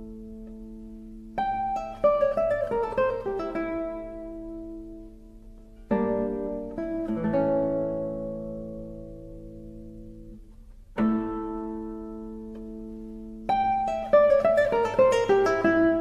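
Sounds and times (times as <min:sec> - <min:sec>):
acoustic guitar chords: 0:00.0 - 0:16.0
plucked guitar notes: 0:00.0 - 0:16.0.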